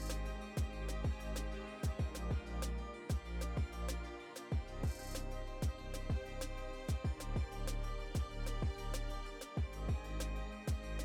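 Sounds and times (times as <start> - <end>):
music with deep pulsing bass: 0.0 - 11.0.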